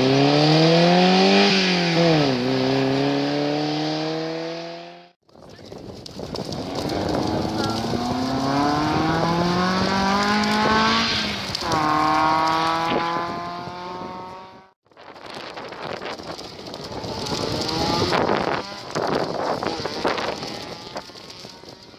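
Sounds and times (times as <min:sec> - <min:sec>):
rally car engine revving: 0:00.0 - 0:05.2, 0:06.4 - 0:14.7, 0:16.8 - 0:21.8.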